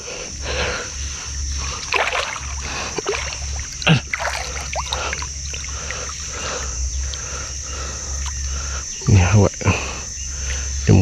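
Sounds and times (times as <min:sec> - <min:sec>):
water sloshing around boat: 0:00.0 - 0:09.3.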